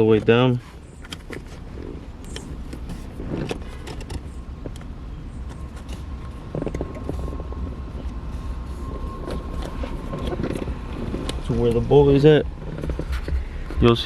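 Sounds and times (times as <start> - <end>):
faint steady whine: 0.0 - 14.0
steady low rumble: 0.0 - 14.0.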